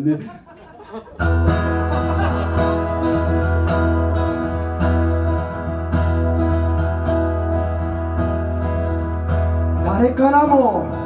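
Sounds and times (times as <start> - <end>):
acoustic guitar strumming: 1.2 - 11.0.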